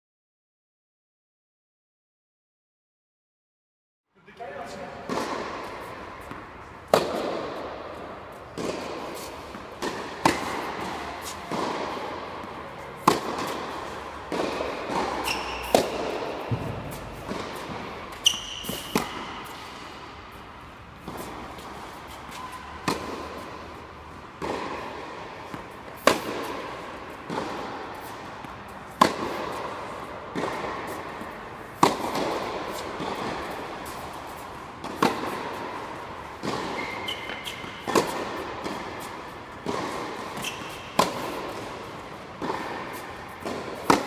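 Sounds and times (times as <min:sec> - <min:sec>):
tennis balls hit with rackets: 0:04.6 - 0:44.0.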